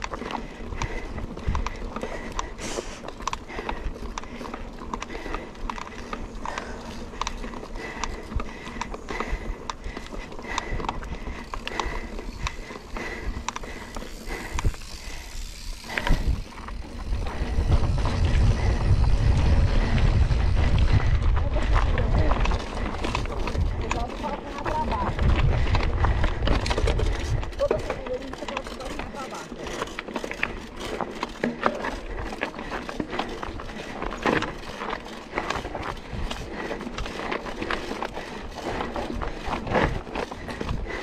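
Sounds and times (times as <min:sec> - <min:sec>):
bike frame and chain rattling: 0:00.0 - 0:41.0.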